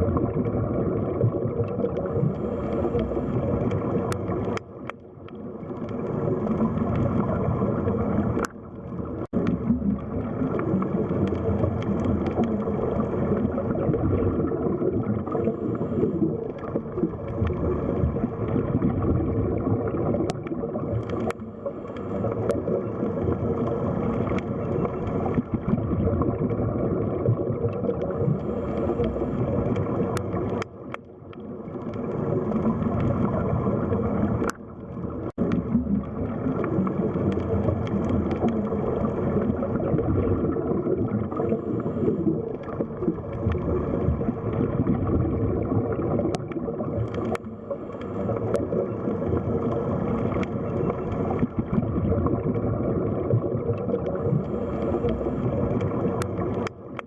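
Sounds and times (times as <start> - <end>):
underwater low rumble: 0.0 - 57.0
water gurgling: 0.0 - 57.0.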